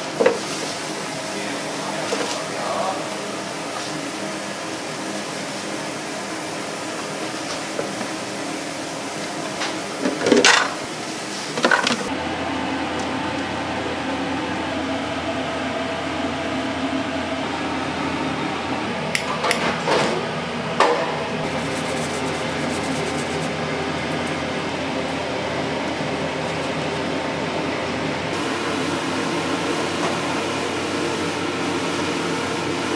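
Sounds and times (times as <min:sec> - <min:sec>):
steady kitchen noise: 0:00.0 - 0:32.9.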